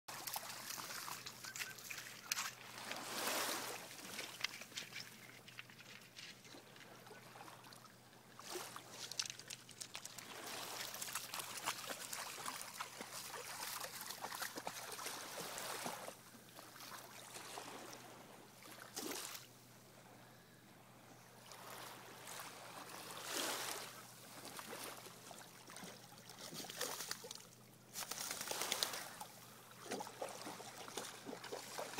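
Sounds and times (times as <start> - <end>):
water sloshing and splashing: 0.1 - 19.5, 21.5 - 31.9.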